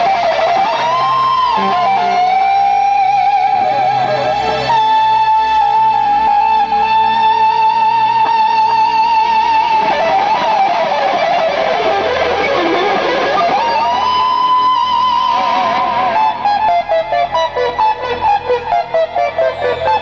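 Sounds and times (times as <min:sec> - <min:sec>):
electric guitar lead: 0:00.0 - 0:20.0.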